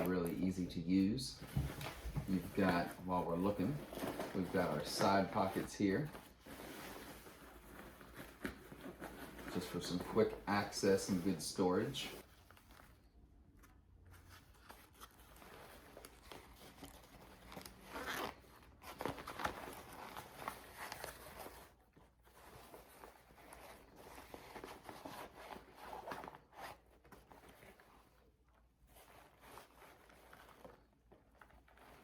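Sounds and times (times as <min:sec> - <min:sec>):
backpack fabric rustling: 0:00.0 - 0:13.0, 0:14.1 - 0:32.0.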